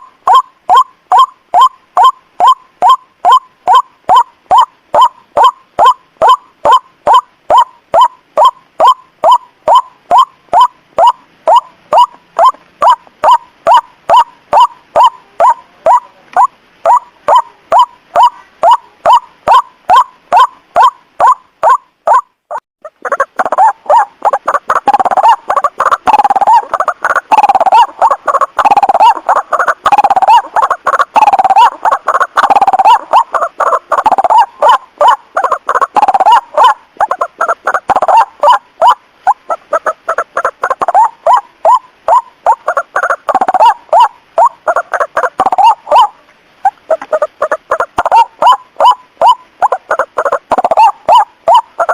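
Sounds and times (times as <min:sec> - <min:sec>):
waterhen calls: 0:00.0 - 0:51.9.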